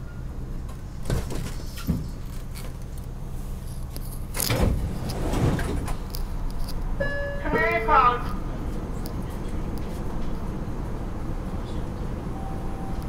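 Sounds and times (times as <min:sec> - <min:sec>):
subway train low hum: 0:00.0 - 0:13.0.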